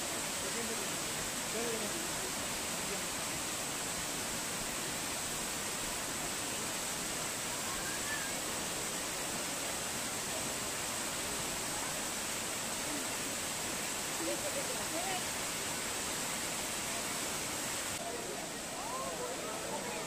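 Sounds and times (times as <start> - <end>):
steady rushing hiss: 0.0 - 20.0.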